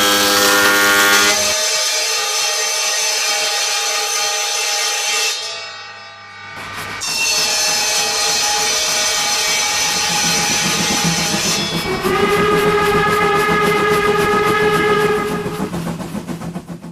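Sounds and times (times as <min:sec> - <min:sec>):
model sawmill saw whine: 0:00.0 - 0:05.4, 0:06.4 - 0:16.9.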